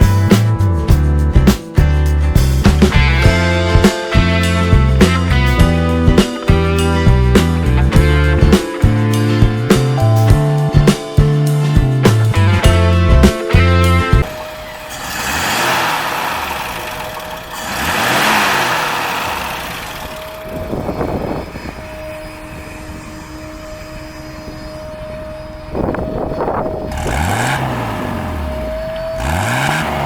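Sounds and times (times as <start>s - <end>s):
road noise: 0.0s - 30.0s.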